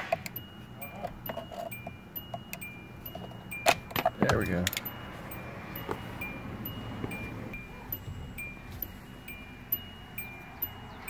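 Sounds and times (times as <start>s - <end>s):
car reminder chime beeping: 0.0s - 11.0s.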